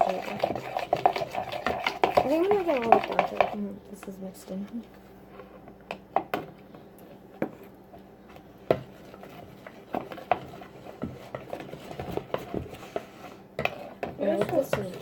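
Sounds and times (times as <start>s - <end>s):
spoon stirring slime: 0.0s - 15.0s.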